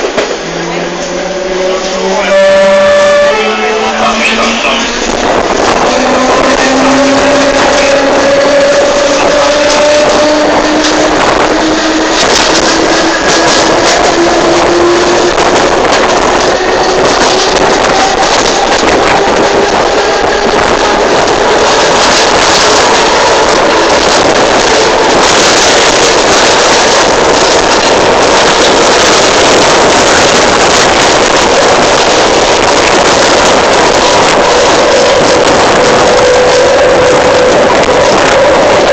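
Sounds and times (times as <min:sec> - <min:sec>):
electric train running loud: 0:00.0 - 0:38.9.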